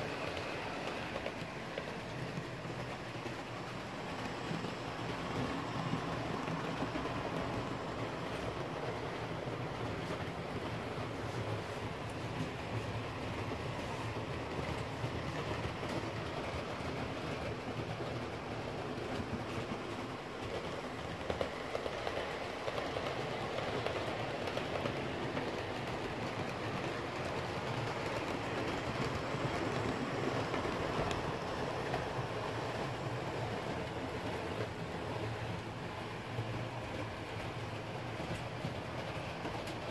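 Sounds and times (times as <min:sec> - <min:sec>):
model trains rumbling on track: 0:00.0 - 0:39.9.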